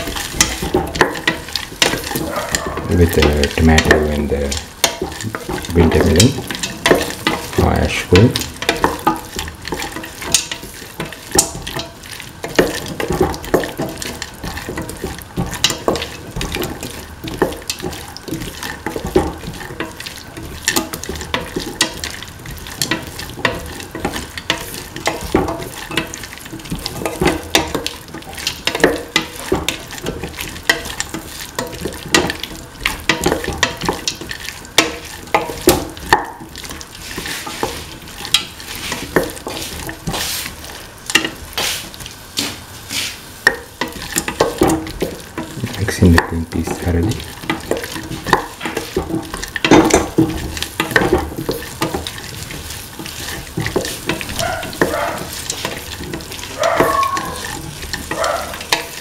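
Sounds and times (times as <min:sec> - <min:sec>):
metal spatula scraping a pan: 0:00.0 - 0:45.8, 0:46.7 - 0:59.0
light sizzle: 0:00.0 - 0:59.0.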